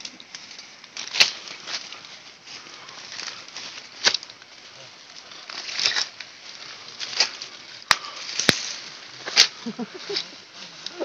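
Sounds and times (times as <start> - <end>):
footsteps on forest trail: 0.0 - 11.0.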